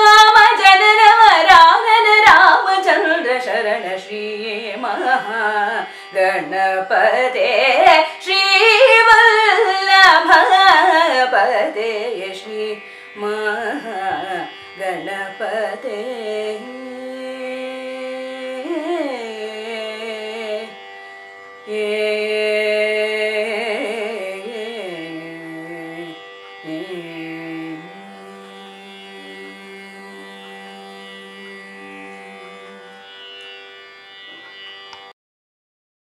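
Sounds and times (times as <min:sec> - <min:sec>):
woman singing: 0:00.0 - 0:20.8, 0:21.6 - 0:30.6.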